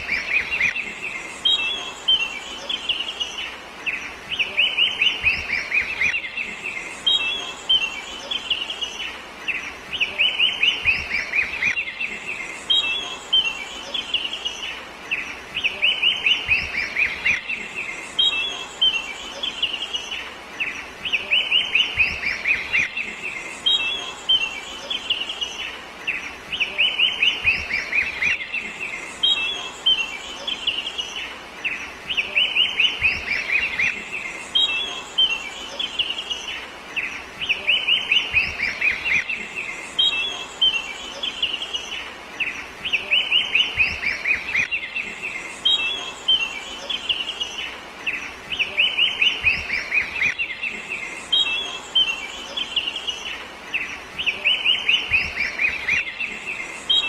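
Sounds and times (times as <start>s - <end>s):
bird singing chirps: 0.0s - 57.0s.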